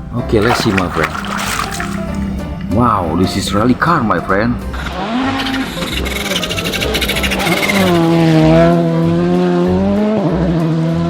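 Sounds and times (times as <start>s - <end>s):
race car engine revving: 0.7s - 11.0s.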